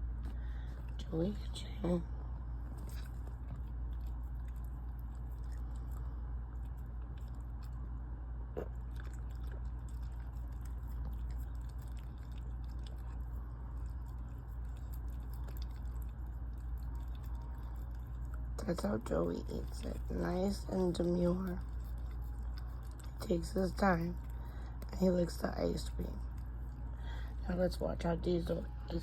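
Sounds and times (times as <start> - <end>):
dog licking and eating: 0.0 - 29.0
steady low hum: 0.0 - 29.0.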